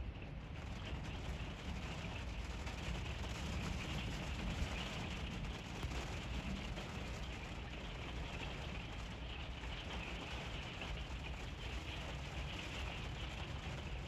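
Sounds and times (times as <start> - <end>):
light rain pattering: 0.0 - 14.0.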